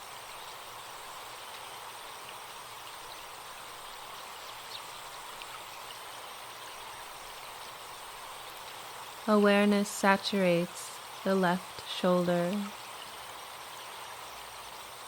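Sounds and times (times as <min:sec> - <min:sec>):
stream running: 0:00.0 - 0:15.0.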